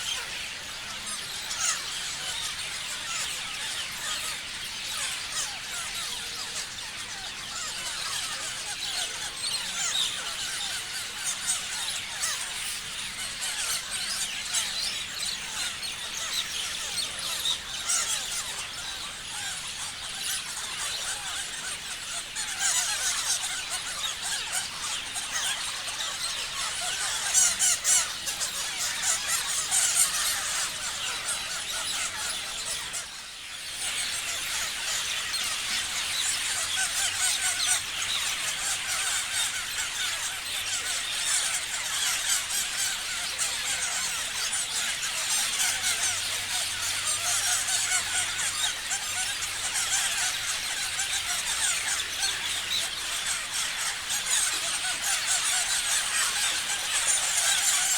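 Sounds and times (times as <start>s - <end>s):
parrots chirping: 0.0s - 57.9s.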